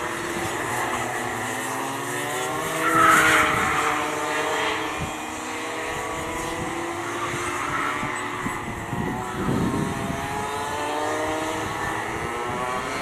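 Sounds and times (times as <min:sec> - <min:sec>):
kart engines racing: 0:00.0 - 0:13.0.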